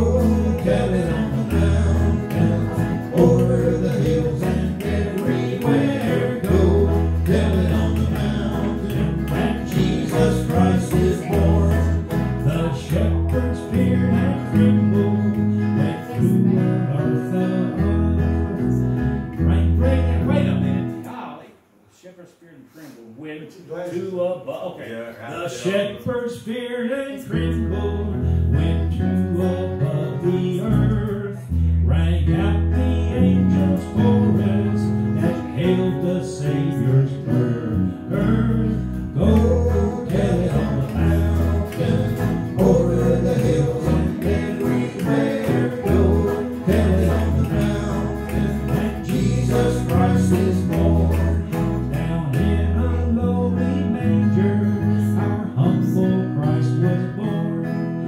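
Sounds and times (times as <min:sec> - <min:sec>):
person singing: 0:00.0 - 0:20.1, 0:26.7 - 0:58.0
bass line: 0:00.0 - 0:20.9, 0:27.4 - 0:57.7
strummed guitars: 0:00.0 - 0:21.2, 0:27.2 - 0:58.0.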